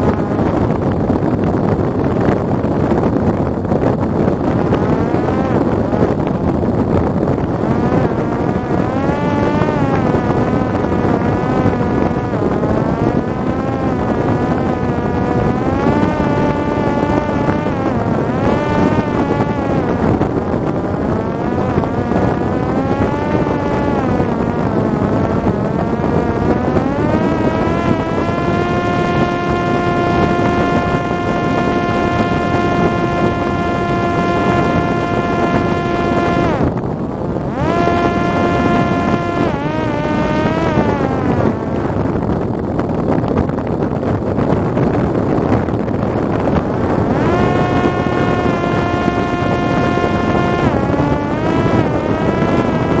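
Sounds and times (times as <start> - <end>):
drone motor and propeller whine: 0.0 - 53.0
wind rushing: 0.0 - 53.0.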